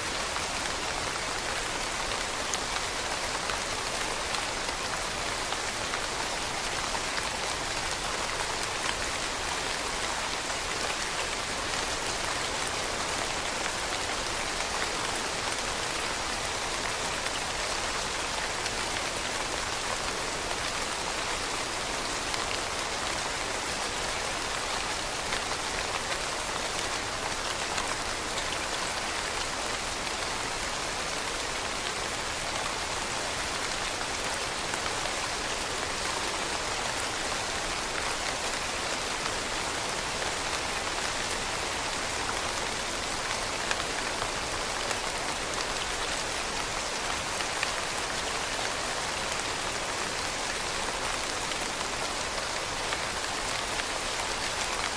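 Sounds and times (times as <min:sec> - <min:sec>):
rain falling on leaves: 0:00.0 - 0:54.9.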